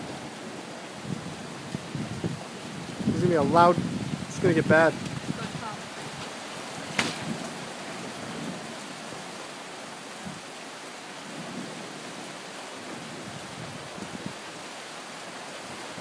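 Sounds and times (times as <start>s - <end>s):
rain hissing: 0.0s - 16.0s
wind: 0.0s - 16.0s.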